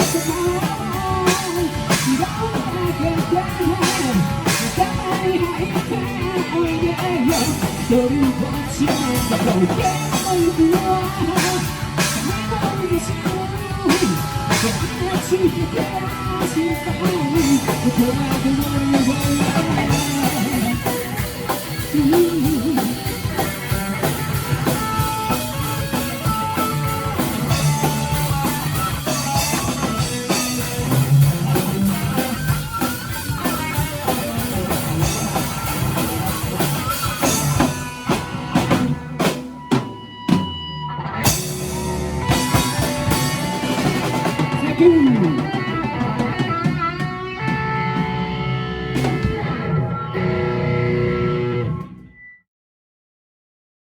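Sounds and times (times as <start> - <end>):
live rock band playing: 0.0 - 52.2.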